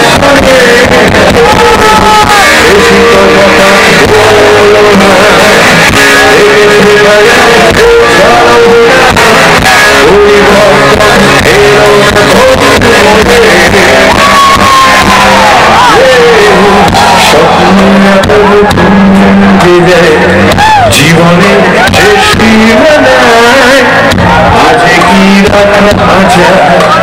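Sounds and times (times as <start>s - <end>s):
live rock band playing: 0.0s - 27.0s
male vocalist singing: 0.0s - 27.0s.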